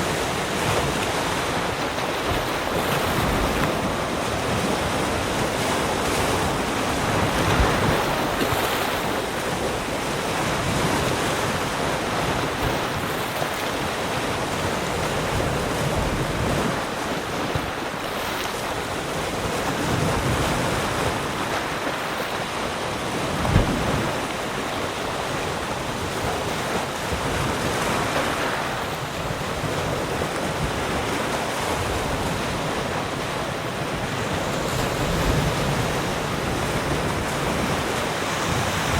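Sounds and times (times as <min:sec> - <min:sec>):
ocean surf washing on shore: 0:00.0 - 0:38.9
wind rumble on microphone: 0:00.0 - 0:38.9.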